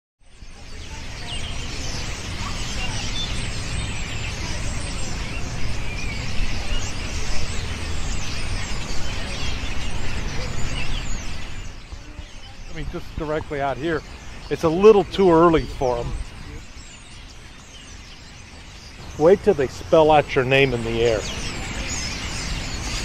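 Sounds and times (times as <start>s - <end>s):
flock of starlings calling: 0.2s - 23.0s.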